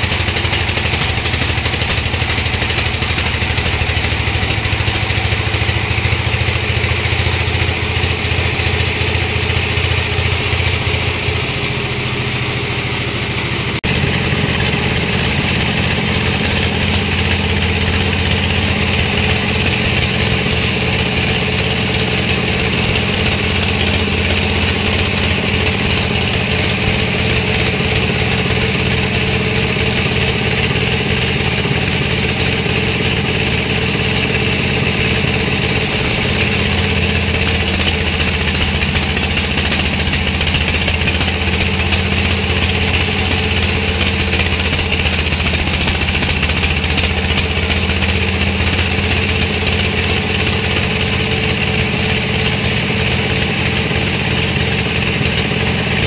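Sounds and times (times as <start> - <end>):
sawmill engine humming: 0.0 - 56.0.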